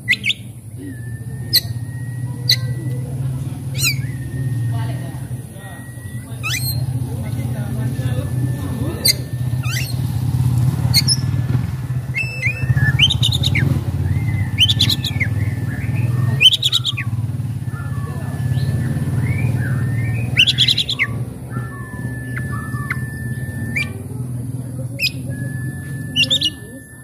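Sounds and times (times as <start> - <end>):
bird singing whistles: 0.0 - 27.0
harsh rasping bird calls: 0.0 - 27.0
steady low hum: 0.0 - 27.0.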